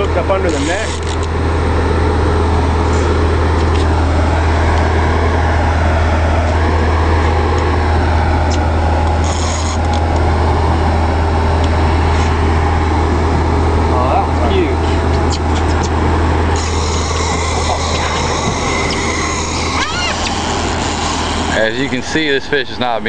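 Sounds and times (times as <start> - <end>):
boat engines idling: 0.0 - 23.0.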